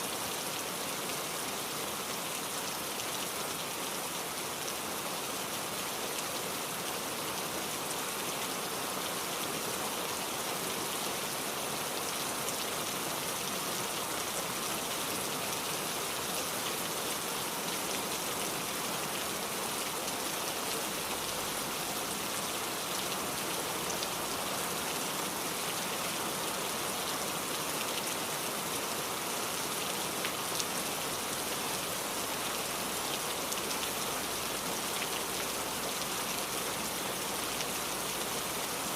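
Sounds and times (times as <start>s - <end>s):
rain pattering on a surface: 0.1s - 38.9s.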